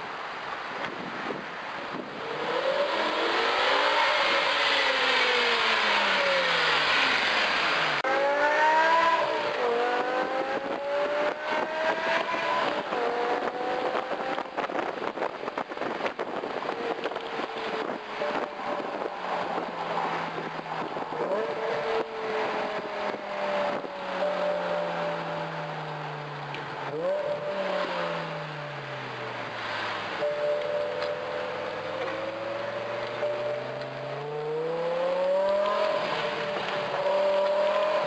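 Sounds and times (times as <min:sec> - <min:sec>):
car engine accelerating through gears: 0:02.2 - 0:38.0.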